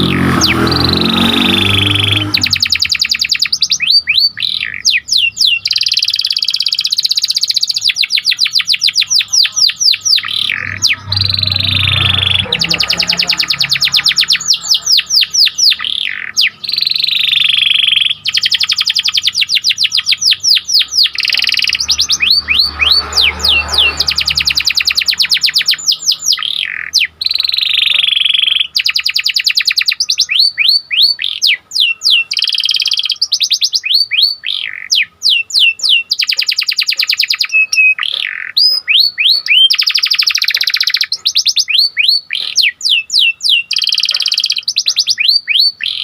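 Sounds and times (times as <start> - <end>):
canary singing: 0.0 - 46.0.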